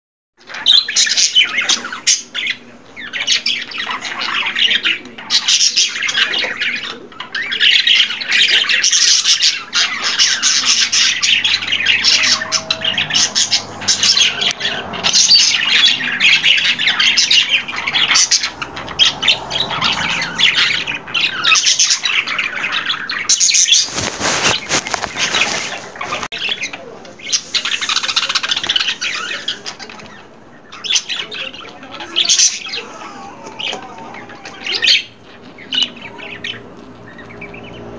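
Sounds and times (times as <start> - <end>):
budgerigar chattering and warbling: 0.4 - 37.9.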